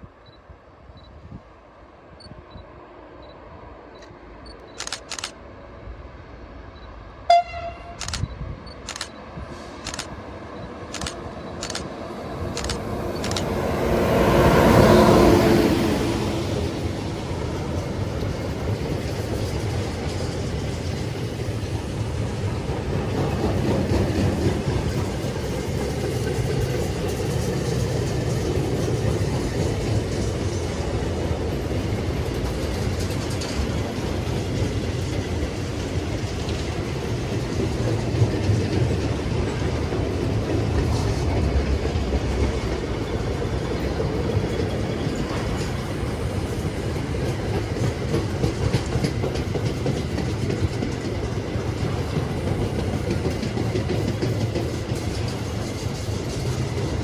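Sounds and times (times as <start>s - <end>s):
train wheels rumbling on rails: 2.1s - 57.0s.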